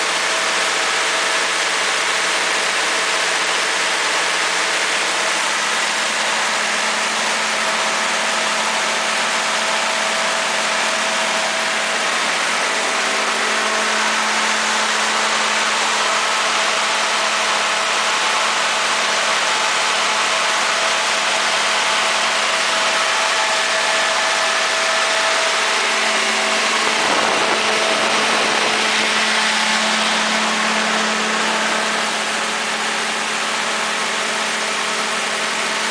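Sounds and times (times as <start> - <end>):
diesel generator humming: 0.0 - 35.9.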